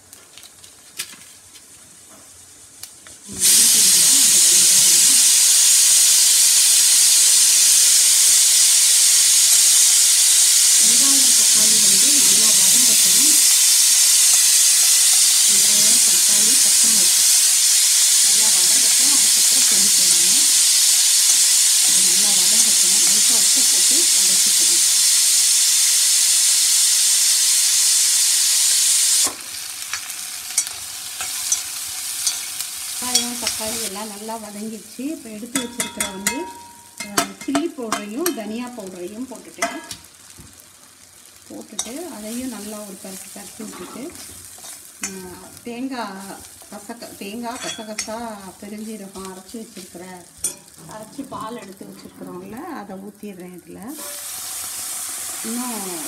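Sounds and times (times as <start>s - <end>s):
vegetables sizzling in hot oil: 1.5s - 56.0s.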